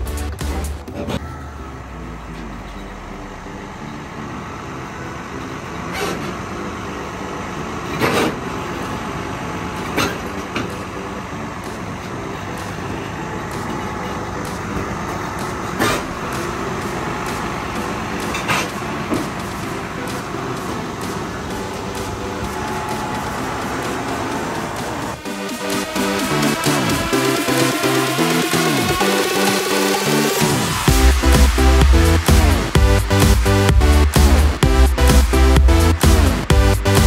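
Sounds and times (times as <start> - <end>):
heavy truck engine running: 0.0 - 37.0.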